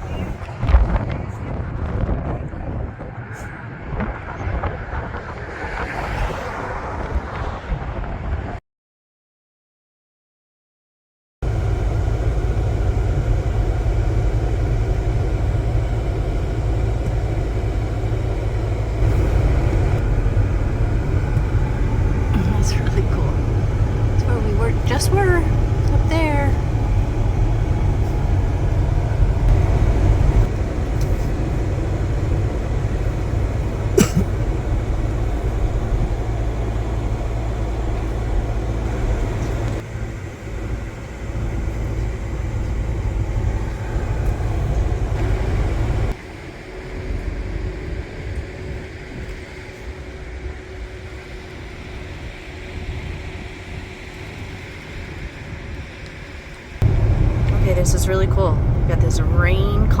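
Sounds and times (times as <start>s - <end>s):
car driving rumble: 0.0s - 8.6s, 11.4s - 60.0s.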